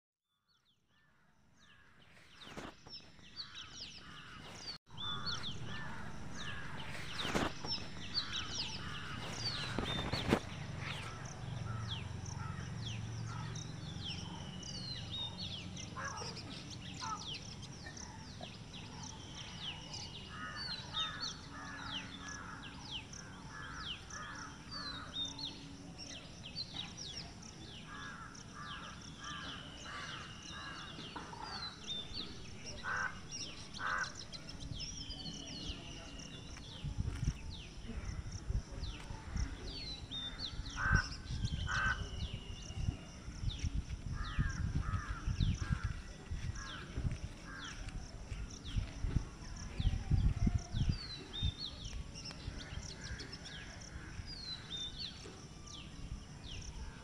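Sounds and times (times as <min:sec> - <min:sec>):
birds chirping: 0:01.4 - 0:57.0.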